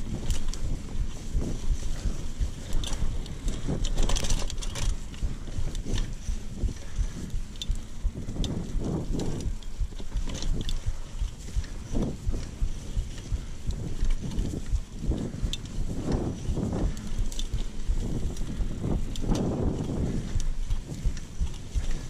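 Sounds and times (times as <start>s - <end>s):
bike clicks and rattles: 0.0s - 22.0s
bike tyres rumbling on dirt: 0.0s - 22.0s.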